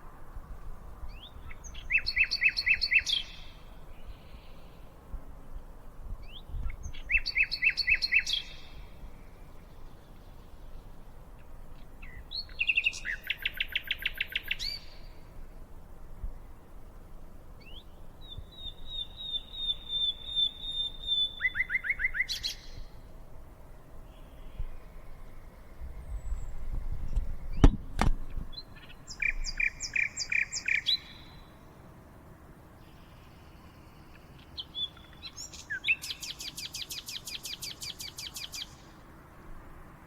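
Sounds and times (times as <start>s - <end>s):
birds chirping and trilling: 1.1s - 4.9s, 6.3s - 15.2s, 17.6s - 23.0s, 24.1s - 31.8s, 32.8s - 39.0s.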